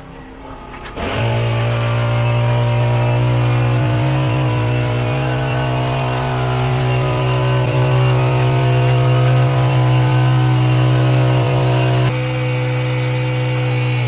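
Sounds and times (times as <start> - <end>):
power screed engine running: 0.7 - 14.0.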